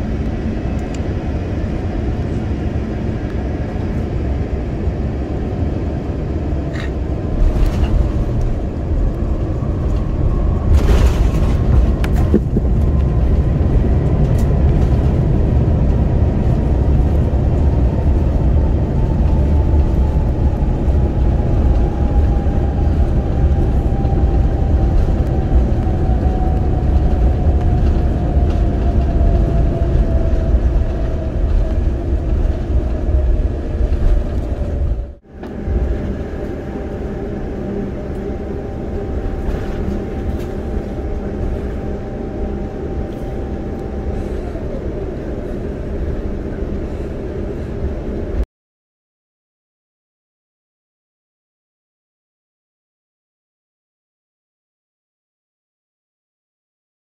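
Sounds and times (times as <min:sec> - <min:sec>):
engine whine falling in pitch: 0:00.0 - 0:48.4
aircraft wheels and engines rumbling: 0:00.0 - 0:48.5.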